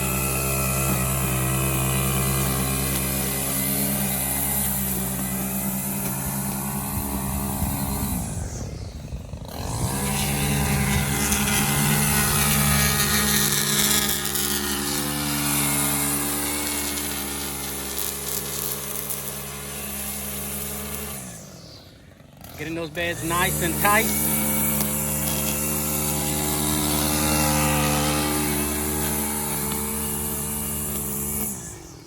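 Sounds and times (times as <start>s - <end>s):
small petrol engine high revs: 0.0s - 32.0s.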